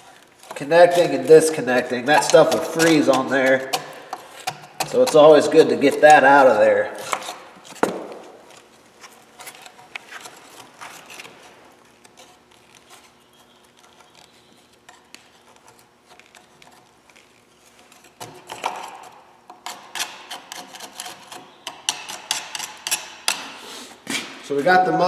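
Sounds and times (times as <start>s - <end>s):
scraping frozen mud off metal: 0.0s - 7.8s, 9.2s - 24.1s.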